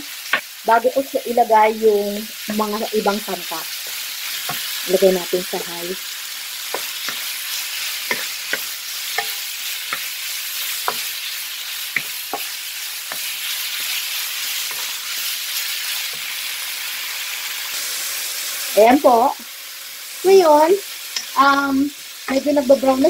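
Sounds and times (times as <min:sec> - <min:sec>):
meat sizzling in hot oil: 0:00.0 - 0:23.0.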